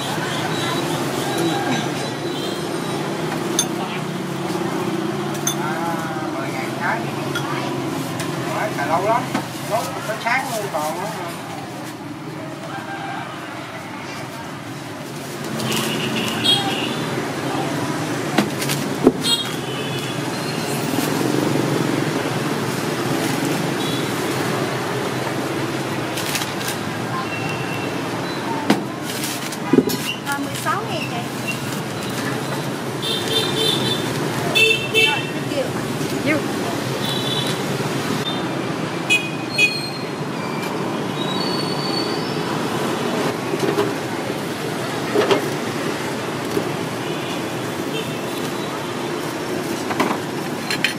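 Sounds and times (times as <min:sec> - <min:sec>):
motorbikes and cars passing: 0:00.0 - 0:50.9
street traffic: 0:00.0 - 0:50.9.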